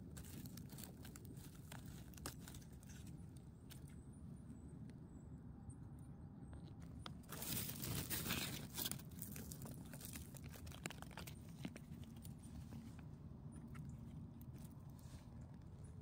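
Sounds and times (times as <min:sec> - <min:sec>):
rustling of dry forest litter: 0:00.0 - 0:03.9, 0:06.8 - 0:16.0.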